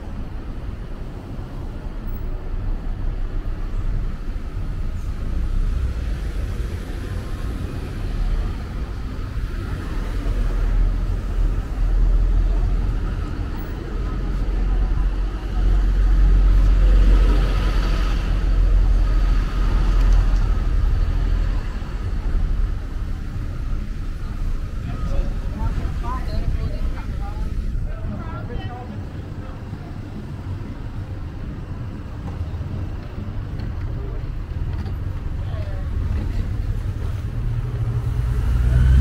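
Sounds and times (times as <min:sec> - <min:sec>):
low rumble of passing cars: 0:00.0 - 0:39.0.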